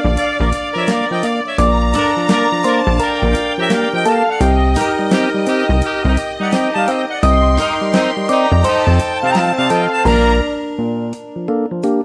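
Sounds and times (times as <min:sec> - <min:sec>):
plucked keyboard melody: 0:00.0 - 0:12.0.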